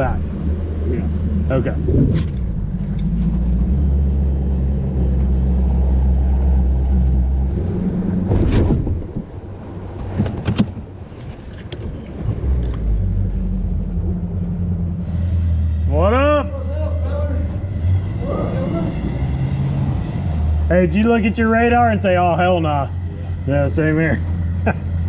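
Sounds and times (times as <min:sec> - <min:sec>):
engine idling low hum: 0:00.0 - 0:10.2, 0:10.8 - 0:25.0.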